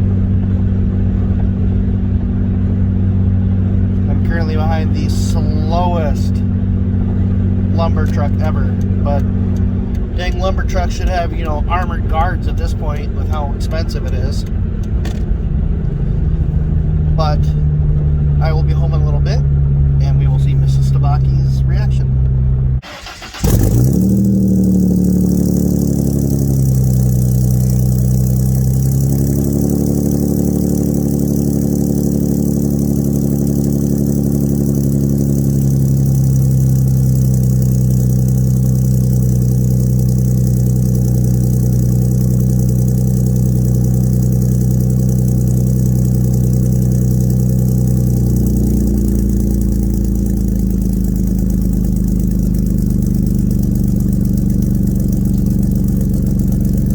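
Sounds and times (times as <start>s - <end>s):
low exhaust drone: 0.0s - 56.9s.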